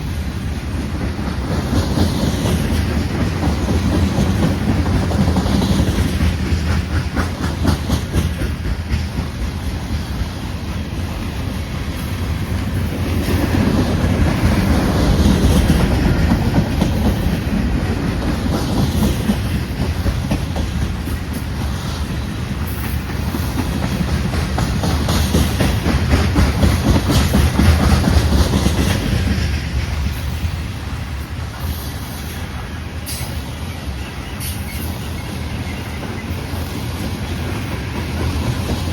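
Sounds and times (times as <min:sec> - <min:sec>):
freight train rumble: 0:00.0 - 0:38.9
train wheels clicking over rail joints: 0:00.0 - 0:38.9.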